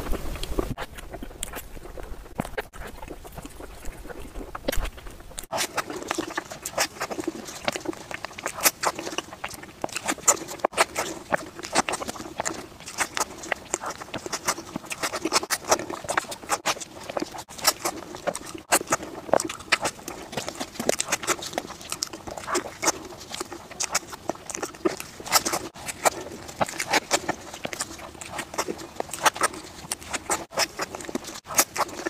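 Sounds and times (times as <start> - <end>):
chewing soft bread: 0.0 - 32.0
wet mouth noises: 0.0 - 32.0.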